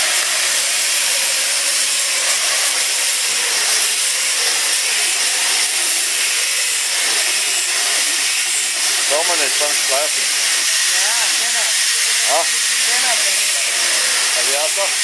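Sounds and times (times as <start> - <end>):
angle grinder grinding steel: 0.0 - 15.0.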